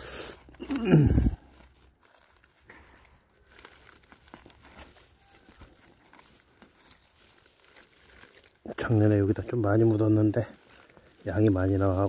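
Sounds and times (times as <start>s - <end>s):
hand rustling leaf litter and soil: 0.0s - 12.0s.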